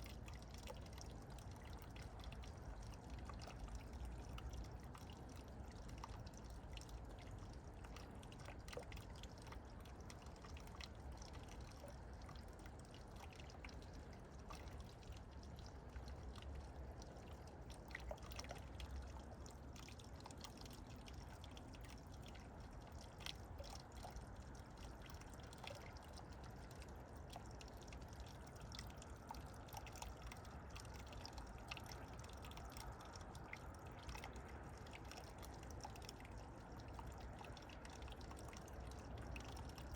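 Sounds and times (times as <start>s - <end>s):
faint water trickling and dripping: 0.0s - 39.9s.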